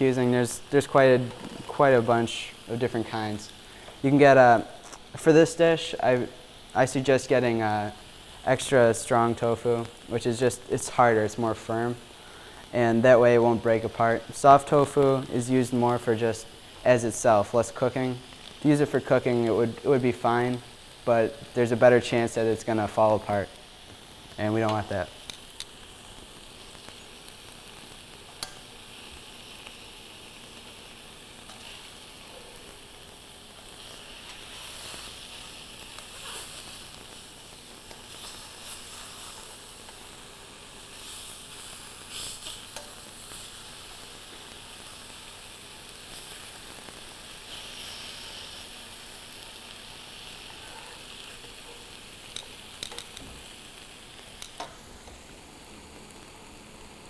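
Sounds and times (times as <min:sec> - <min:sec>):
tofu sizzling in a pan: 0:00.1 - 0:57.0.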